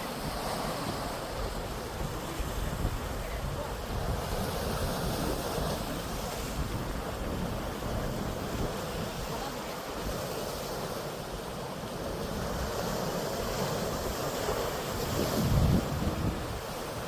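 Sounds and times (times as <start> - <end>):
sea waves breaking on shore: 0.0 - 17.0
wind rumbling on microphone: 0.0 - 17.0.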